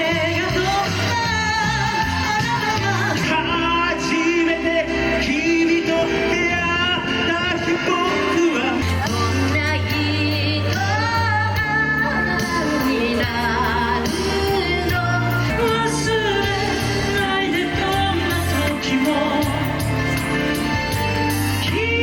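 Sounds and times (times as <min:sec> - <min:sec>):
bass line: 0:00.0 - 0:22.0
live pop band playing: 0:00.0 - 0:22.0
person singing: 0:00.0 - 0:22.0.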